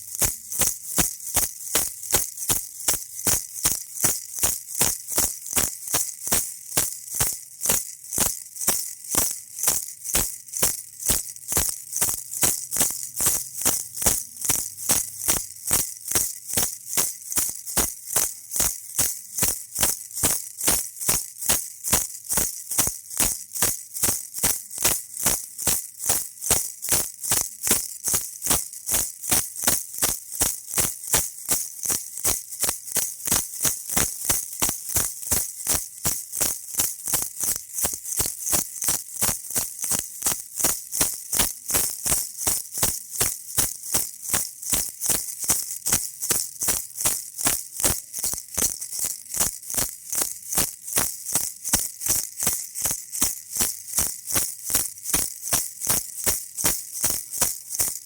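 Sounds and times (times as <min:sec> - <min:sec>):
baby rattle shaking: 0:00.0 - 0:58.0.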